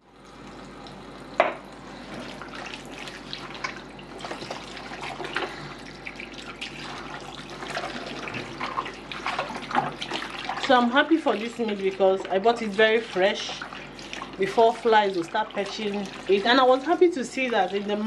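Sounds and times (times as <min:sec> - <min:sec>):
tap water running into sink: 0:00.4 - 0:18.0
water splashes and knocks: 0:01.4 - 0:18.0.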